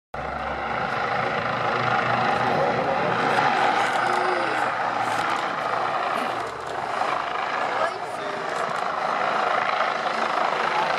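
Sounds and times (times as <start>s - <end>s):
helicopter hovering: 0.2s - 10.9s.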